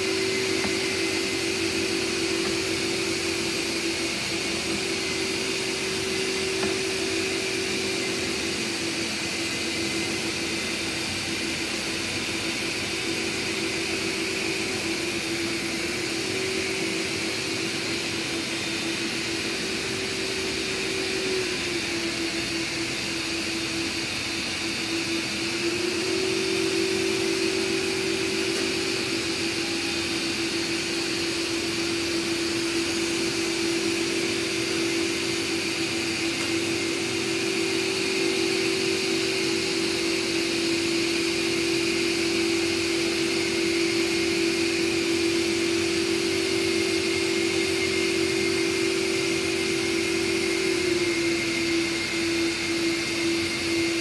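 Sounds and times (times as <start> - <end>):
robot vacuums whirring: 0.0 - 54.0.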